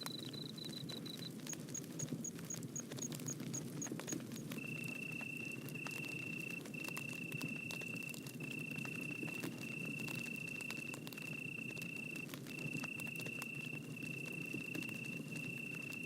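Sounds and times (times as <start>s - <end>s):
insect trill: 0.0s - 1.8s, 4.5s - 16.0s
insects chirping: 0.0s - 1.8s, 4.5s - 16.0s
wood fire crackling and popping: 0.0s - 16.0s.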